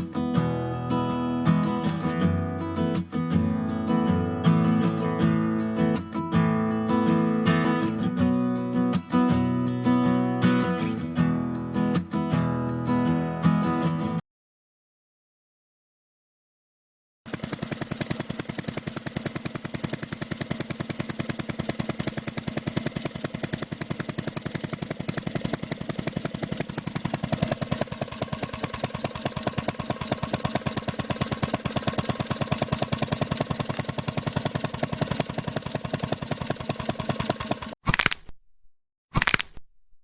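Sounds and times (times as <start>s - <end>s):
small engine running: 0.0s - 14.2s, 17.3s - 38.2s.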